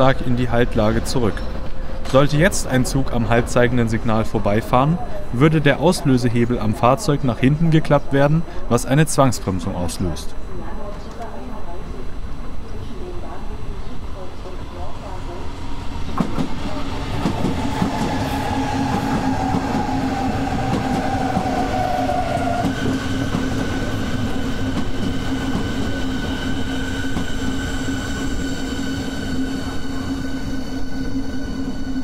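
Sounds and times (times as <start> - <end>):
electric train rumble and hum: 0.0 - 32.0
train whine: 0.0 - 32.0.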